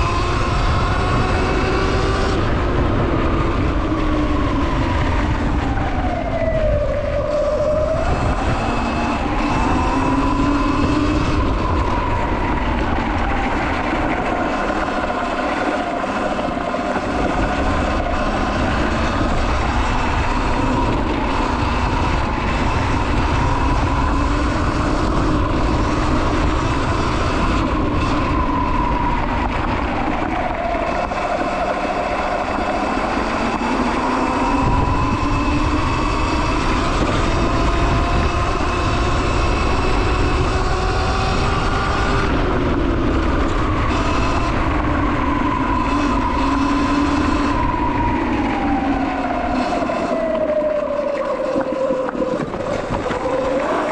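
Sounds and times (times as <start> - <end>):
electric motor whining: 0.0 - 53.9
wind rumble on microphone: 0.0 - 53.9.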